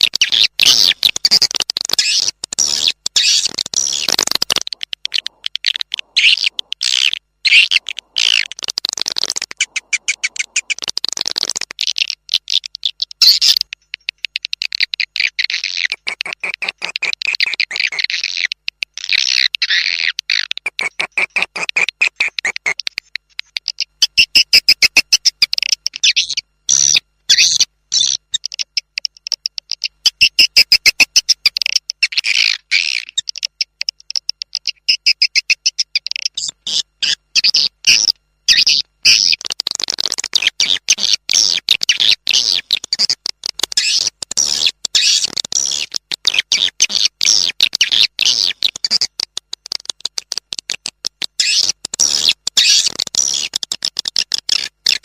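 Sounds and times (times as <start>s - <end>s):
swiftlet twittering calls: 0.0s - 49.2s, 51.3s - 55.0s.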